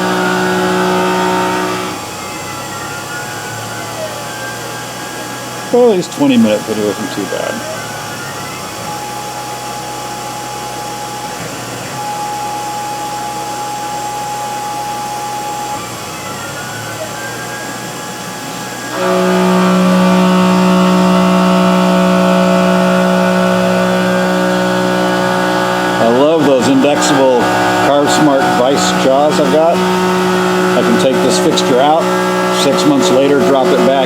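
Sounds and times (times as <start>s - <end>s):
cnc mill motor whine: 0.0s - 34.0s
steady low hum: 5.0s - 34.0s.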